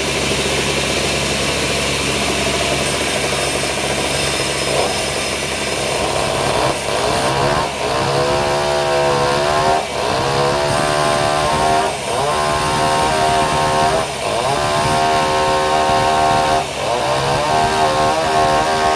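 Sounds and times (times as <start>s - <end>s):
saw engine revving: 0.0s - 18.9s.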